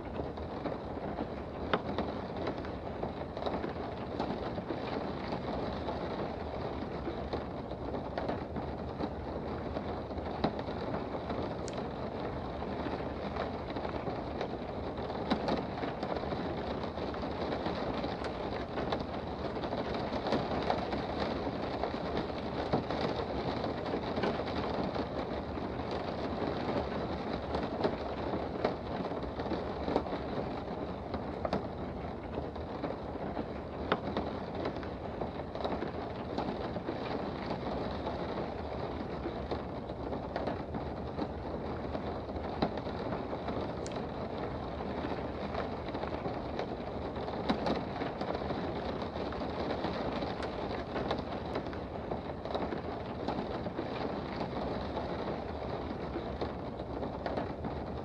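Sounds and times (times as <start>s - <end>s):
raindrop ticks: 0.0s - 58.0s
steady rain: 0.0s - 58.0s.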